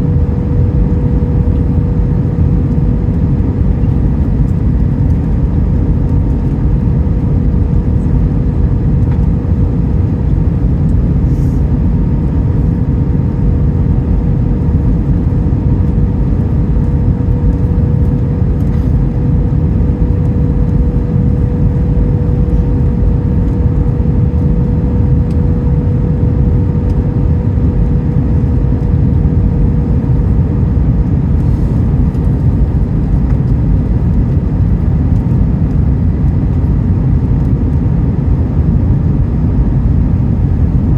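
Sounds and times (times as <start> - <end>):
engine and airflow rush: 0.0 - 40.9
thin steady hum: 0.0 - 40.9.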